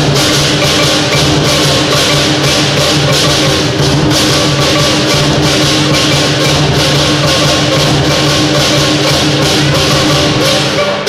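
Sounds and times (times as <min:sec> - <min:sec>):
big drum: 0:00.0 - 0:11.0
cymbal crashes: 0:00.0 - 0:11.0
gong: 0:00.0 - 0:11.0.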